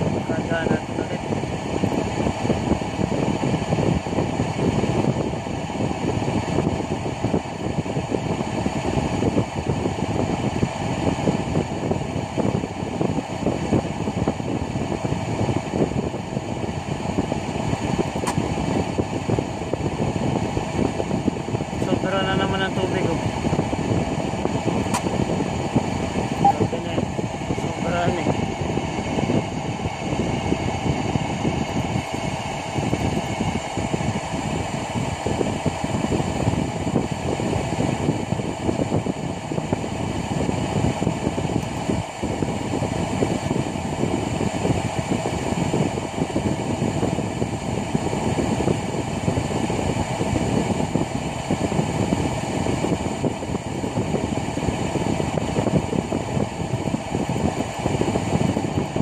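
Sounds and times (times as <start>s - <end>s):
engine-room machinery drone: 0.0s - 59.0s.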